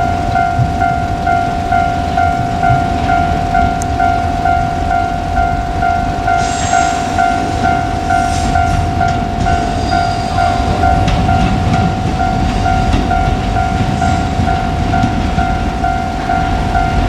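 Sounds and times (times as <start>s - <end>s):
diesel railcar rumble: 0.0s - 17.0s
level crossing alarm ringing: 0.0s - 17.0s
wheel clacks over rail joints: 0.0s - 17.0s.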